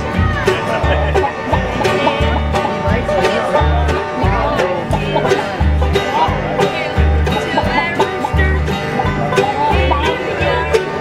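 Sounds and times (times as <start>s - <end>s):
acoustic guitar bass notes: 0.0s - 11.0s
mandolin plucked notes: 0.0s - 11.0s.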